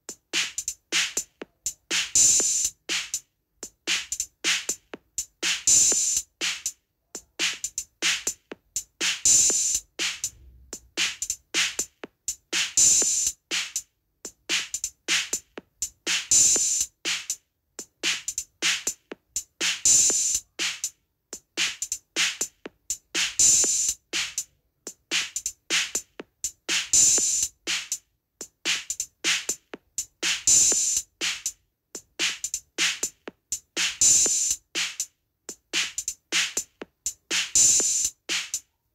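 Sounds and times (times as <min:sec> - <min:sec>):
drum rhythm: 0:00.0 - 0:38.7.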